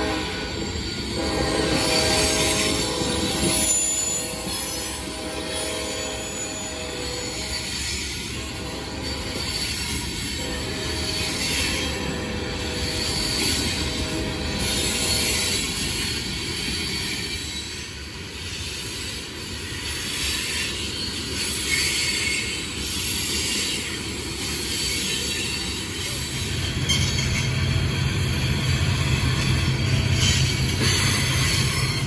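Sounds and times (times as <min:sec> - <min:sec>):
train wheels rumbling and clattering: 0:00.0 - 0:32.0.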